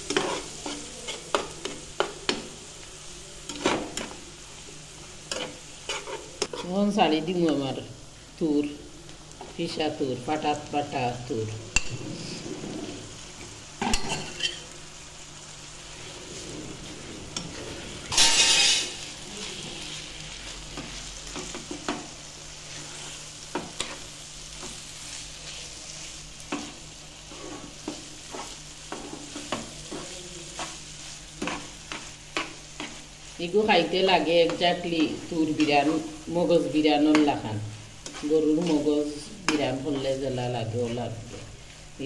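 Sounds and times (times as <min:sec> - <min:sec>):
spatula scraping a pan: 0:00.0 - 0:02.6, 0:03.5 - 0:04.2, 0:05.1 - 0:06.8, 0:11.8 - 0:14.8, 0:15.8 - 0:41.8
paste sizzling in a frying pan: 0:00.0 - 0:42.0.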